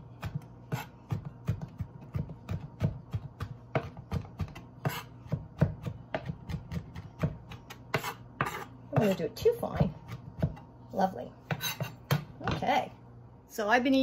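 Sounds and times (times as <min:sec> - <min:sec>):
knife chopping on cutting board: 0:00.1 - 0:10.7, 0:11.4 - 0:12.6.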